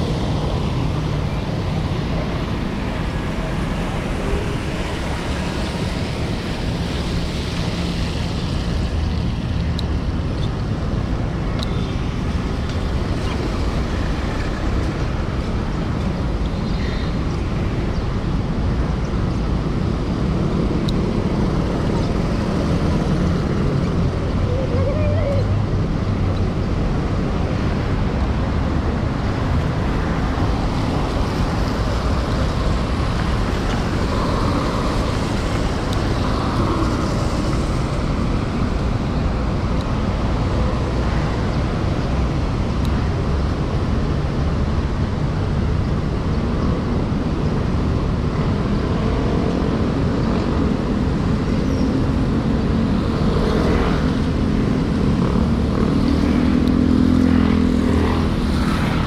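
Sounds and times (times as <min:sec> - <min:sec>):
car engines passing: 0:00.0 - 0:59.0
low traffic rumble: 0:00.0 - 0:59.0.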